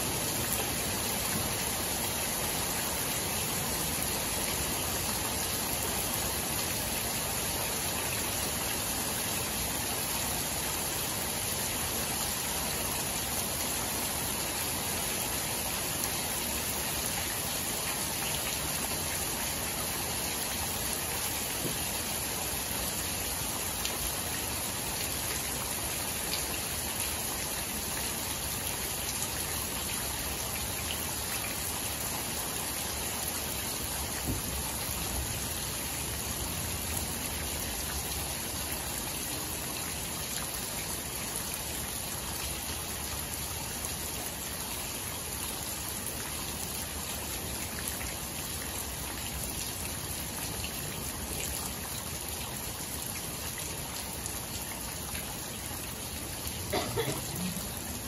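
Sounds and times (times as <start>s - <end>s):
rain falling into puddles: 0.0s - 58.0s.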